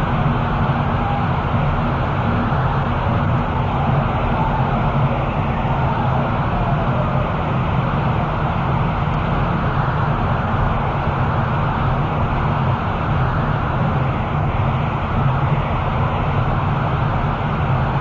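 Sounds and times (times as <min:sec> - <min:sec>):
car road noise on freeway: 0:00.0 - 0:18.0.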